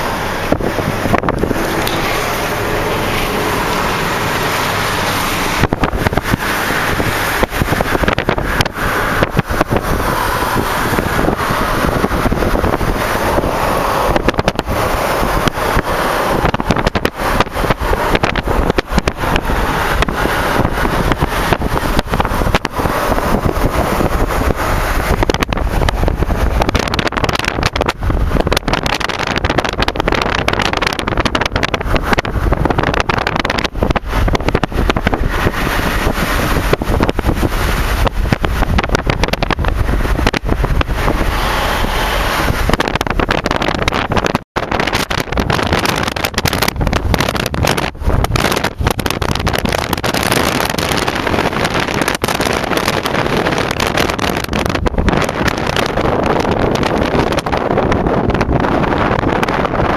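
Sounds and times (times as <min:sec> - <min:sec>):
wind and road noise: 0:00.0 - 0:59.9
wind buffeting microphone: 0:00.0 - 0:59.9.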